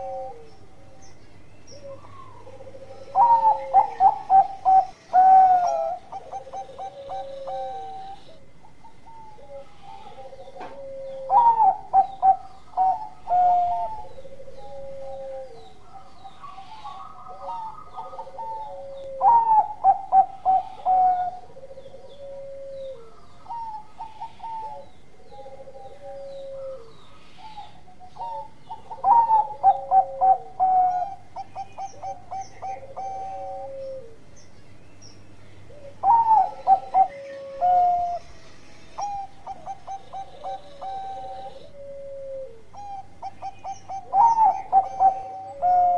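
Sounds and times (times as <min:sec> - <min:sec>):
fainter lower dove coo: 0:00.0 - 0:34.3, 0:35.6 - 0:38.3, 0:38.9 - 0:45.9
dove cooing song: 0:00.0 - 0:45.9.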